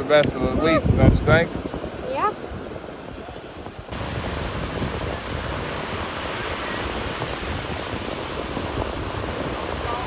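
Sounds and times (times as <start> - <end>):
ocean surf breaking: 0.0 - 10.0.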